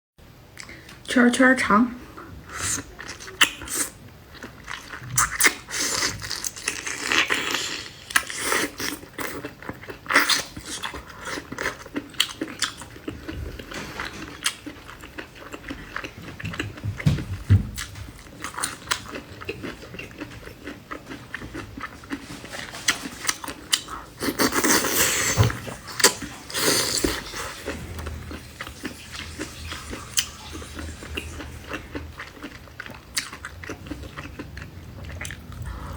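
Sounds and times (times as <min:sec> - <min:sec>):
person chewing and crunching food: 0:02.2 - 0:35.9.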